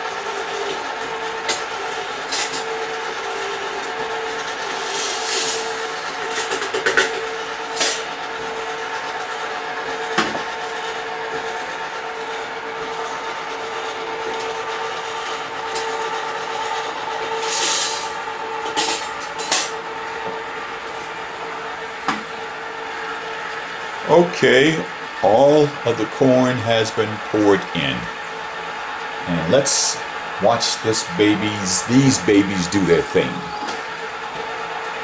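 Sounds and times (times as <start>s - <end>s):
popcorn machines humming: 0.0s - 35.0s.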